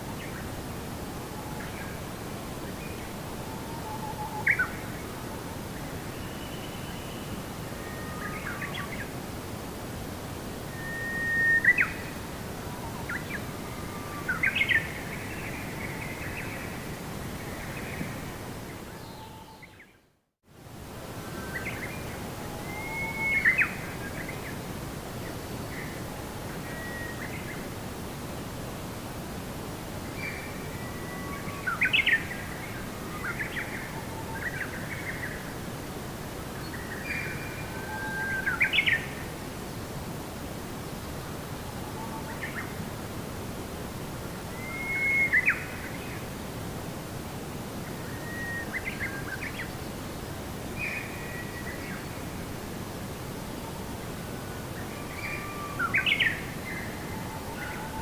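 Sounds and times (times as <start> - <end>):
outdoor background hiss: 0.0 - 58.0.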